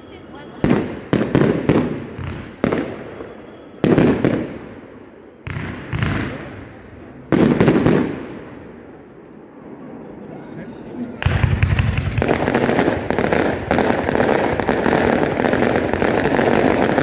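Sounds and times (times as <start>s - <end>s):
fireworks exploding: 0.4s - 10.0s, 11.2s - 17.0s.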